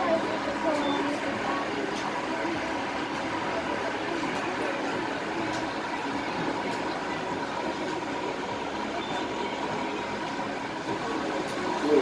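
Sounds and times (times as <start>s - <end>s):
boat engine drone: 0.0s - 12.0s
thin steady whine: 0.0s - 12.0s.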